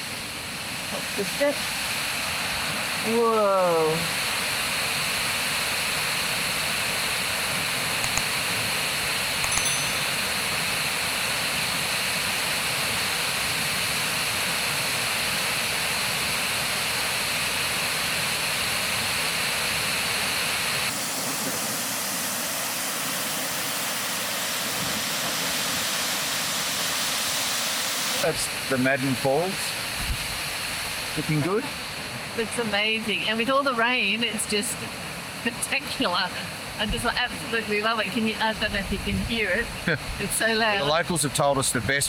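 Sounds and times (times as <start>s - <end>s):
waterfall rushing: 0.0s - 37.8s.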